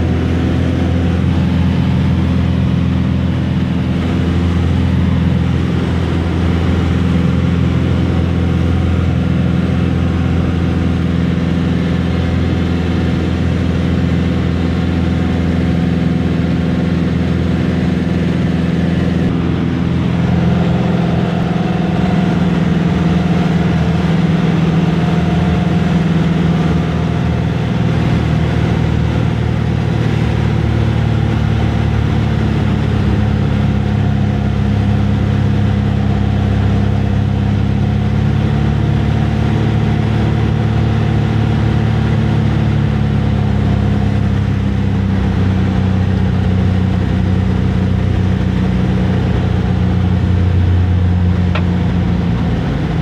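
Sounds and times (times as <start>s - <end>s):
propeller airplane engine drone: 0.0s - 53.0s.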